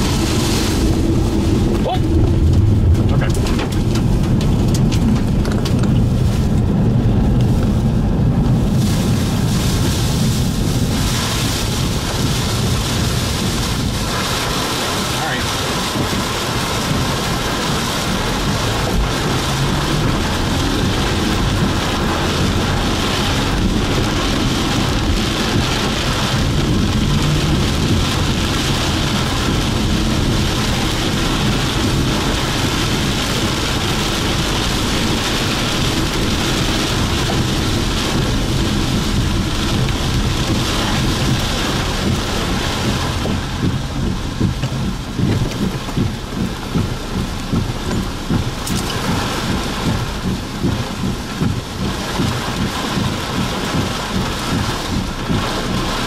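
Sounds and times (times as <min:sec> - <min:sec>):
heavy rain pelting a vehicle: 0:00.0 - 0:56.0
low rumble: 0:00.0 - 0:56.0.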